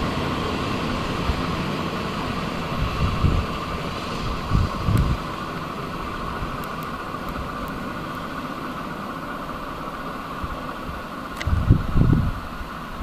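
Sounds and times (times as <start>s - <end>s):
railcar diesel engine running: 0.0s - 13.0s.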